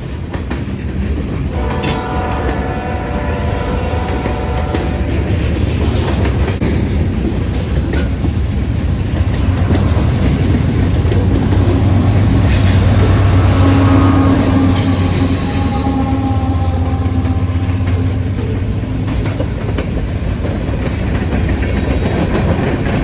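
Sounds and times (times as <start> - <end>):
freight train rumbling on track: 0.0 - 23.0.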